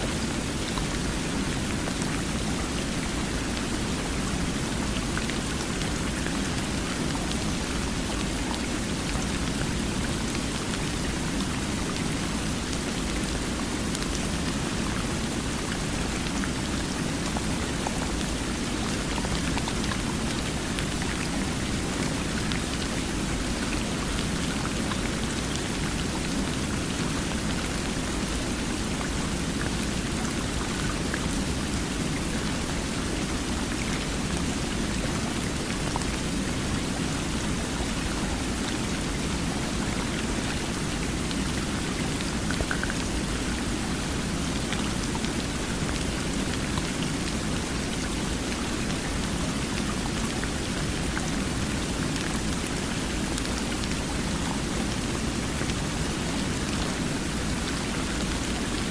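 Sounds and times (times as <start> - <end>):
faint drip-like ticks: 0.0 - 58.9
flowing water rush: 0.0 - 58.9.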